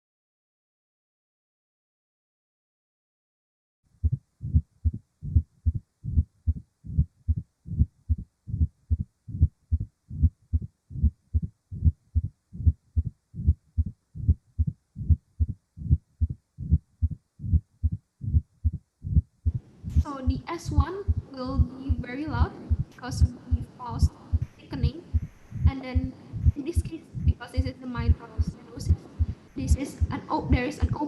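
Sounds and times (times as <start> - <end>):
heartbeat thumps: 4.0 - 31.0
low heart murmur: 4.0 - 31.0.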